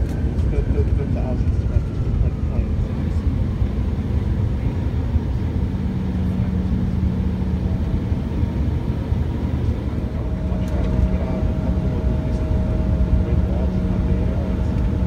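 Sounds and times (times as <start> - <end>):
jet engines rumbling: 0.0 - 15.0
steady cabin hum: 0.0 - 15.0.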